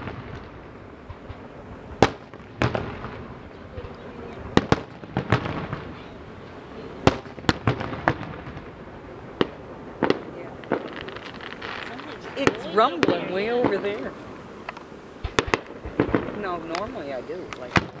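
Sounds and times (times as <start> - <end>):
fireworks bursting with bangs: 0.0 - 18.0.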